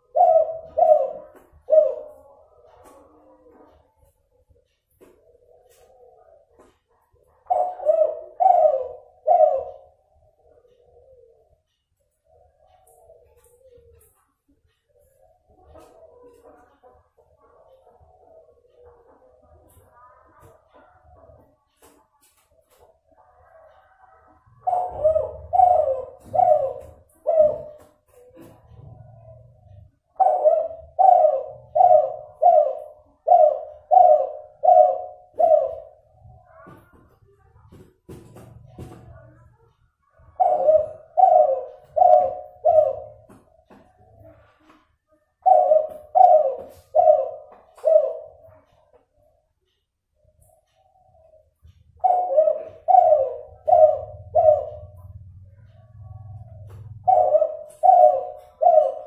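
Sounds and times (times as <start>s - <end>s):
dove cooing: 0.0s - 49.5s, 50.6s - 59.0s.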